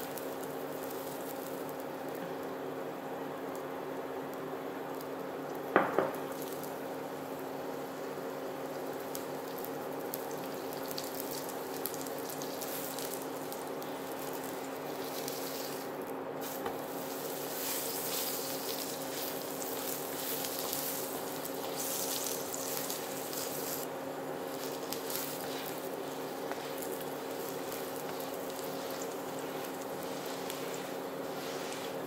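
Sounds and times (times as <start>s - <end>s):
flatbread sizzling in oil: 0.0s - 32.0s
steady low hum: 0.0s - 32.0s.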